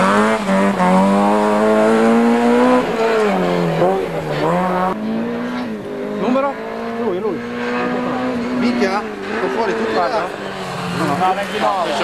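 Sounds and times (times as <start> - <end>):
rally car engine revving high: 0.0 - 12.0.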